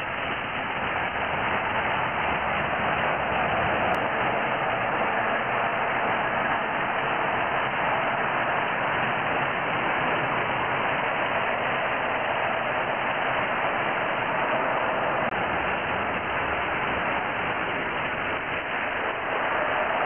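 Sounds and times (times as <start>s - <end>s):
slot cars whirring on track: 0.0s - 20.0s.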